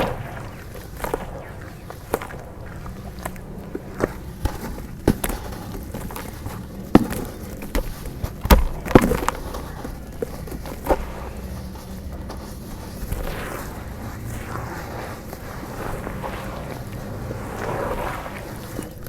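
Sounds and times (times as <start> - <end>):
dried dirt crumbling and cracking: 0.0 - 19.0.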